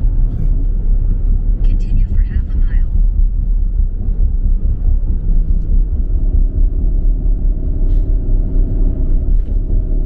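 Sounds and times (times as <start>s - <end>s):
car road noise rumble: 0.0s - 10.0s.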